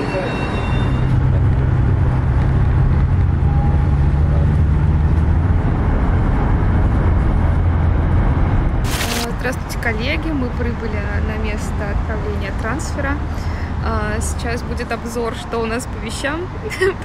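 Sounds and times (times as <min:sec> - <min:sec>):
vehicle engine and tyre rumble: 0:00.8 - 0:17.0.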